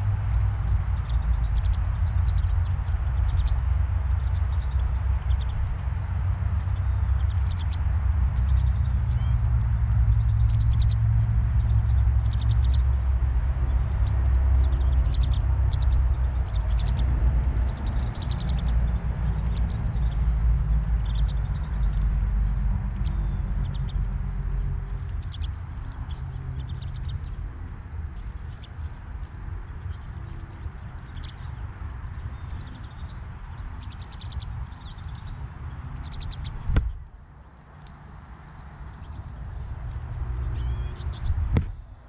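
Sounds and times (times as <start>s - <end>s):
birds chirping: 0.0s - 42.0s
low rumble: 0.0s - 42.0s.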